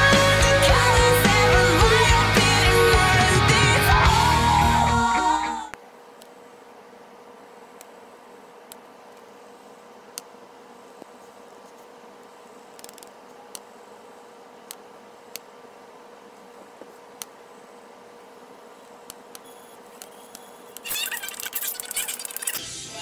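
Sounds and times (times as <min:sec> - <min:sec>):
faint hum and hiss: 0:00.0 - 0:23.0.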